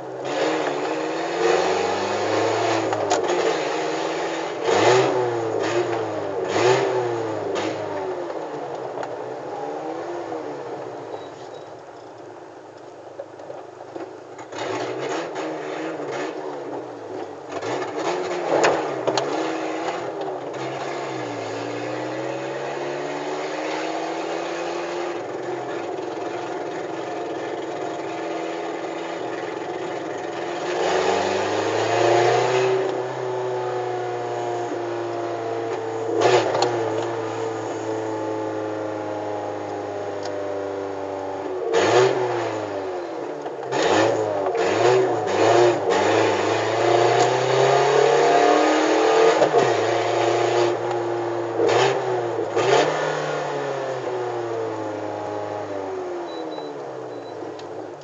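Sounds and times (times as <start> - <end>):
car engine revving: 0.0 - 11.0, 14.4 - 56.4.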